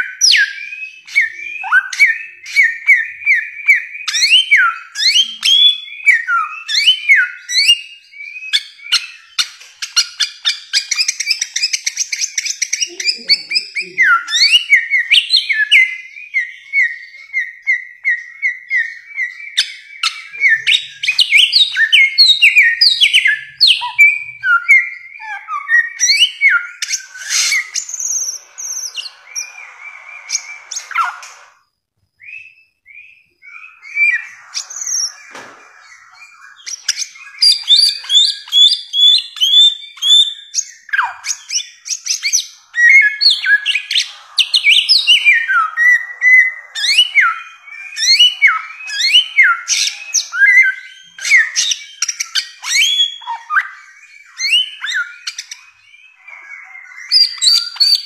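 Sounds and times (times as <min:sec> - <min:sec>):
bird whistling song: 0:00.0 - 0:58.0.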